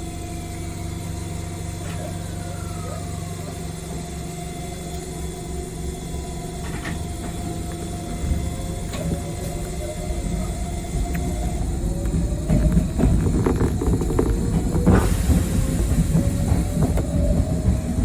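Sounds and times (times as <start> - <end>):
electric train hum: 0.0 - 18.0
low train rumble: 0.0 - 18.0.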